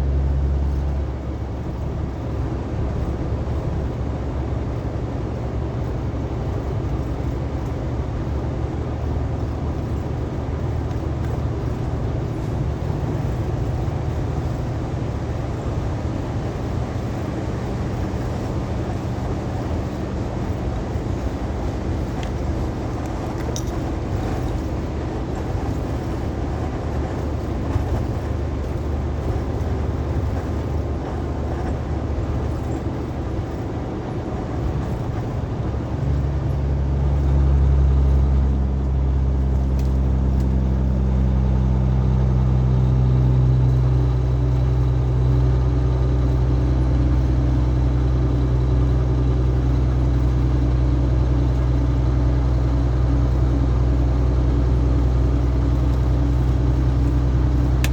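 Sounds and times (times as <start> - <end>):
road and wind noise: 0.0 - 57.9
truck engine drone: 0.0 - 57.9.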